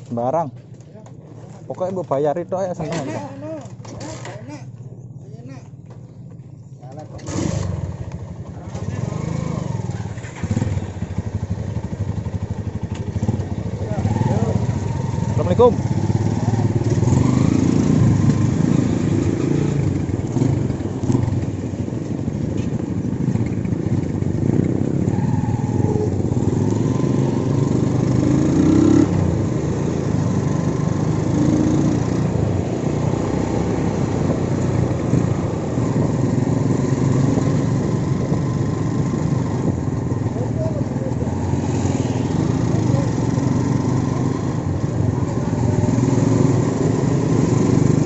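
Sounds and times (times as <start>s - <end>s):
motorcycle engine running: 2.6s - 48.0s.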